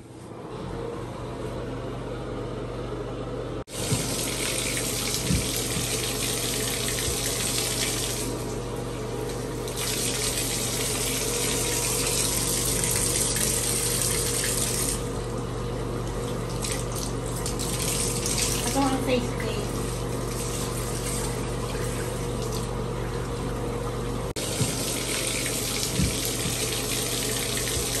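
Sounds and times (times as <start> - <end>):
tap water pouring and splashing: 3.7 - 15.2, 16.0 - 19.2, 19.8 - 28.0.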